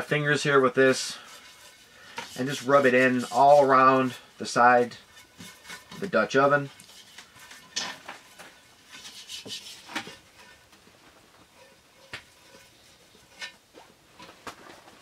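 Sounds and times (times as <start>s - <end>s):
fingers rubbing cast iron pot: 0.0s - 13.8s.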